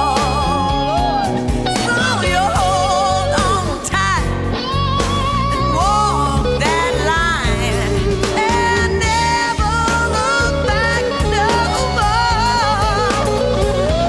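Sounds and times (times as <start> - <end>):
bass and drums: 0.0 - 14.0
lead guitar solo: 0.0 - 14.0.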